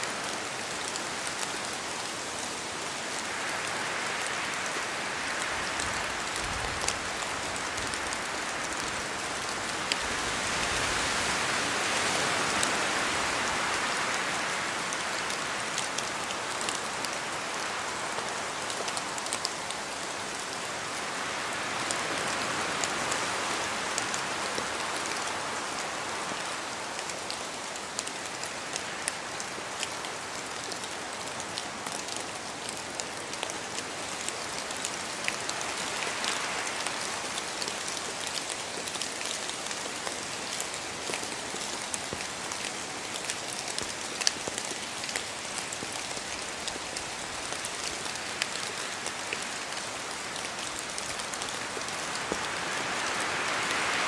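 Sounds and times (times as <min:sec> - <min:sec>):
steady rain in a forest: 0:00.0 - 0:54.0
wind: 0:00.0 - 0:54.0.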